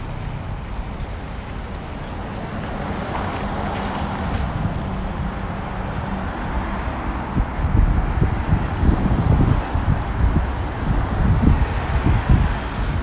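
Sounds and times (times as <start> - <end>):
road traffic hum: 0.0 - 13.0
wind buffeting microphone: 0.0 - 13.0.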